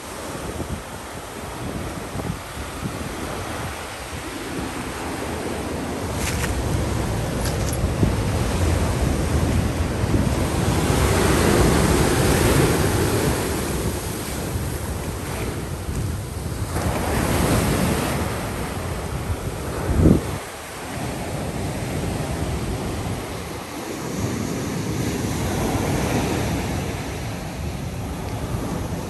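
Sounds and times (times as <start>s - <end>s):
ocean surf breaking: 0.0s - 29.0s
wind buffeting microphone: 0.0s - 29.0s.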